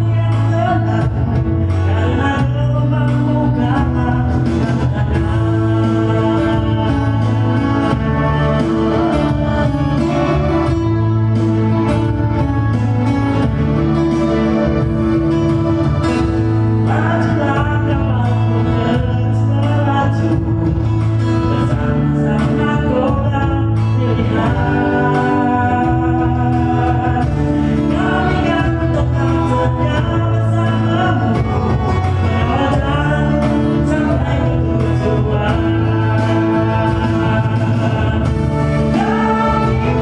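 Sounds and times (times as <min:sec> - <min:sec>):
song with sung vocals and beat: 0:00.0 - 0:40.0.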